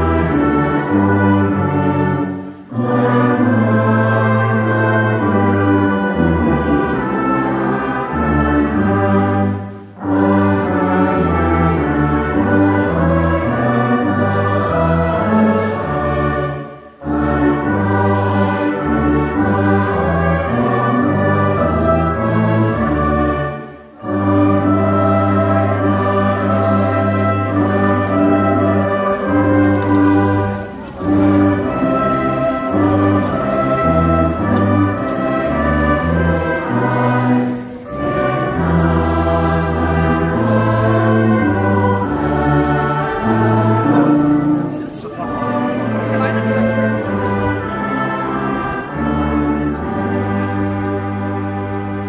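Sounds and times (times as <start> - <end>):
brass ensemble playing chords: 0.0 - 52.0
church choir singing: 0.0 - 52.0.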